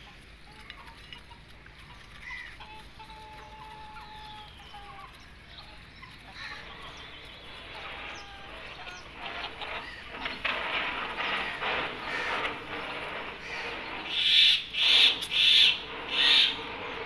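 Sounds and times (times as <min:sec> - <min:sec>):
chickens clucking: 0:00.0 - 0:17.0
chickens scratching: 0:00.0 - 0:17.0.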